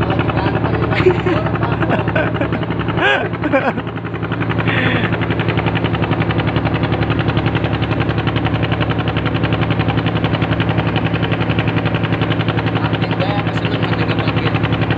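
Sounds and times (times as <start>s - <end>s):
ship diesel engine running: 0.0s - 14.9s.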